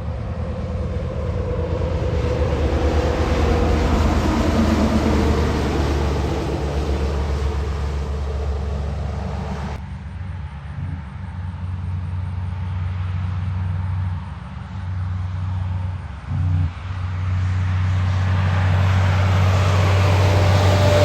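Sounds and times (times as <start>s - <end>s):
approaching traffic rush: 0.0s - 21.0s
vehicle engine humming: 0.0s - 21.0s.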